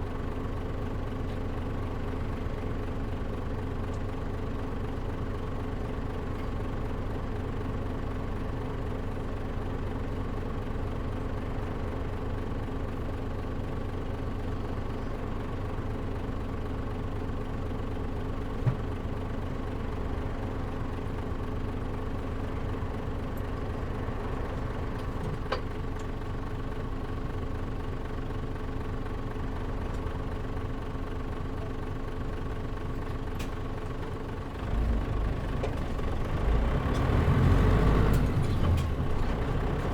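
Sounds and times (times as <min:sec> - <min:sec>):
diesel bus engine idling: 0:00.0 - 0:39.9.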